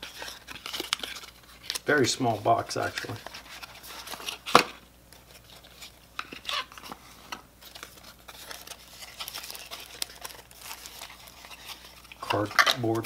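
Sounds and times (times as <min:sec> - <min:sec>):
cardboard box rustling: 0:02.0 - 0:13.0.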